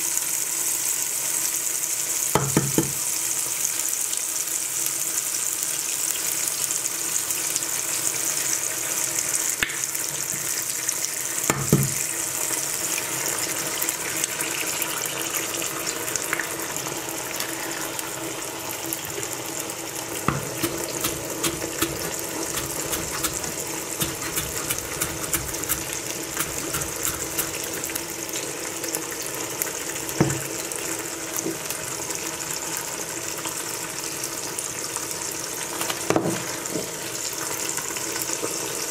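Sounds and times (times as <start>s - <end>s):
eggs frying in oil: 0.0s - 38.9s.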